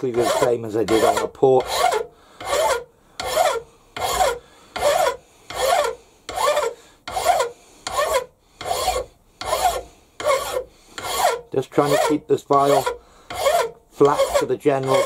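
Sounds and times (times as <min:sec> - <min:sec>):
hand file rasping on metal: 0:00.0 - 0:15.0.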